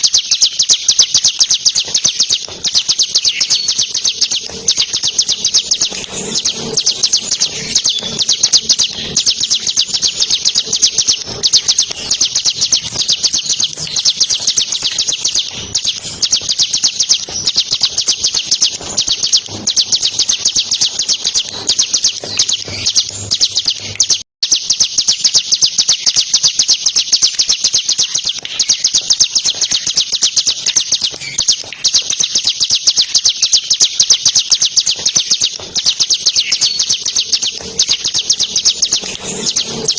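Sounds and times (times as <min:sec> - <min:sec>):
bird rapid trilled song: 0:00.0 - 0:39.9.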